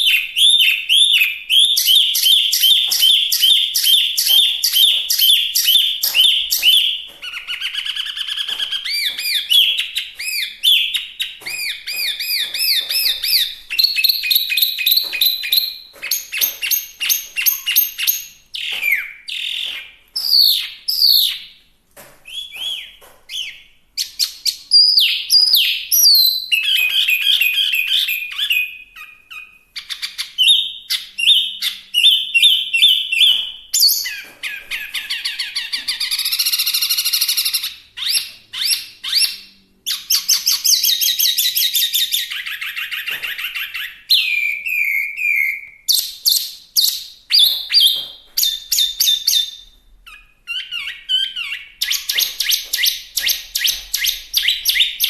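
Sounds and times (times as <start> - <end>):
songbird singing varied song: 0.0 - 21.5, 22.3 - 55.0.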